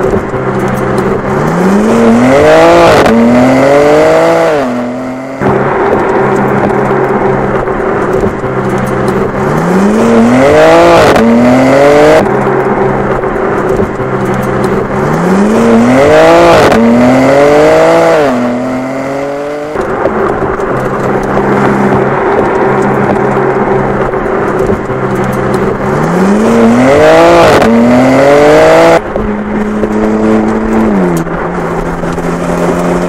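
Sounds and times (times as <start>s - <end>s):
car engine and exhaust accelerating: 0.0s - 33.0s.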